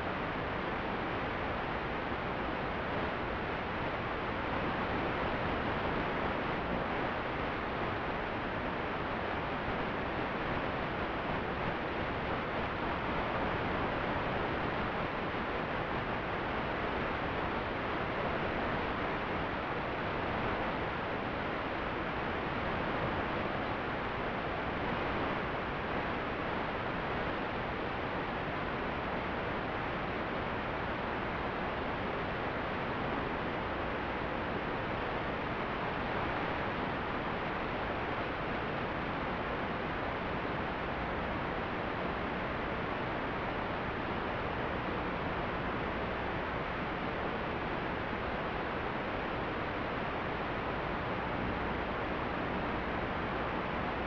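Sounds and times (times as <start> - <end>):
static hiss: 0.0 - 54.0.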